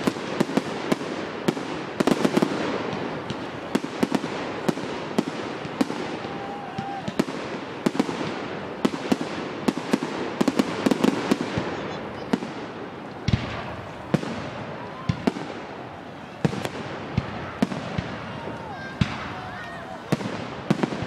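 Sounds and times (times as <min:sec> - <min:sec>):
fireworks crackle and hiss: 0:00.0 - 0:21.0.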